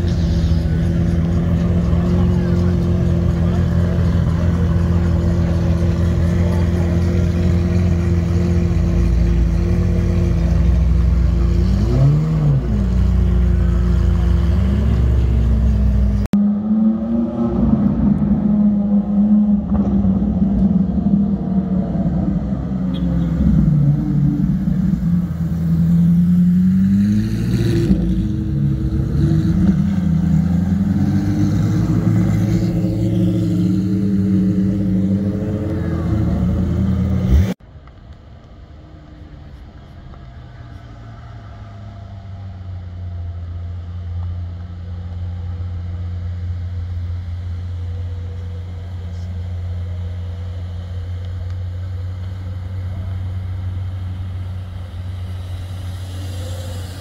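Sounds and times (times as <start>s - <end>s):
car engine revving: 0.0s - 37.6s, 38.7s - 57.0s
low engine drone: 0.0s - 57.0s.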